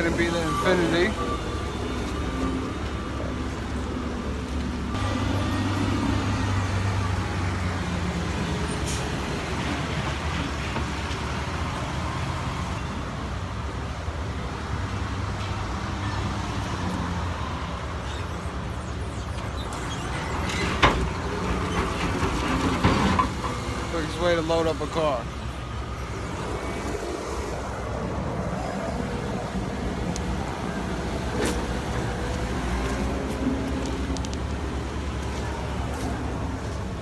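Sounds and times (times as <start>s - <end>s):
forklift engine running: 0.0s - 11.9s, 17.3s - 37.0s.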